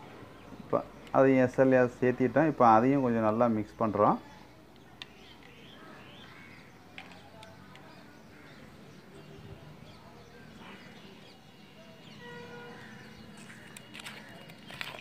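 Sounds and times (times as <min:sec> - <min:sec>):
distant bird chirps: 0:00.0 - 0:15.0.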